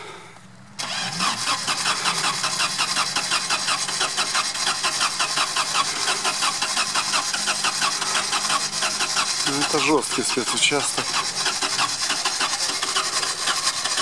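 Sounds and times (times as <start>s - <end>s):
starter motor cranking engine: 0.8s - 14.0s.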